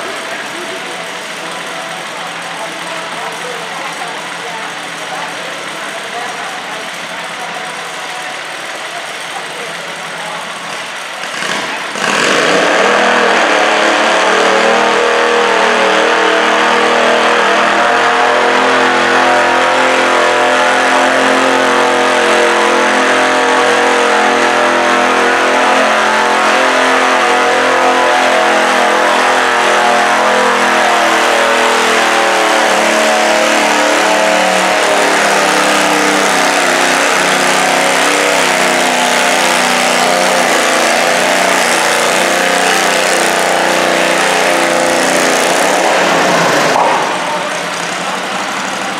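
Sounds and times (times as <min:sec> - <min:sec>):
small tractor engine revving: 0:00.0 - 0:48.9.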